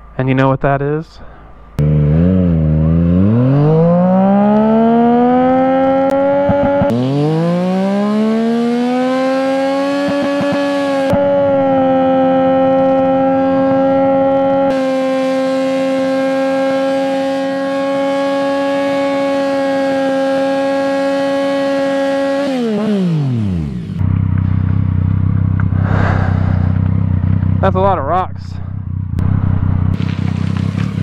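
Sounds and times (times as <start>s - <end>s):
tire burnout: 1.8s - 27.8s, 28.5s - 31.0s
motorcycle engine revving high: 1.8s - 31.0s.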